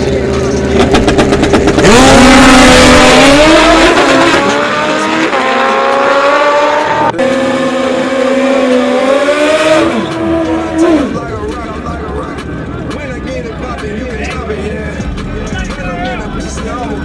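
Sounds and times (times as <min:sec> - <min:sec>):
motorcycle engines at full throttle: 0:00.0 - 0:17.0.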